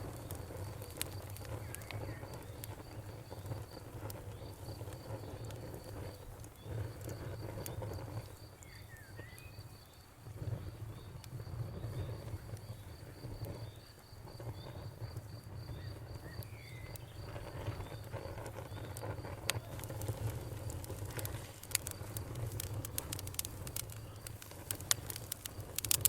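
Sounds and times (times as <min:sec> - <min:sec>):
wood fire crackling and popping: 0:00.0 - 0:26.0
cricket chirping: 0:00.1 - 0:26.0.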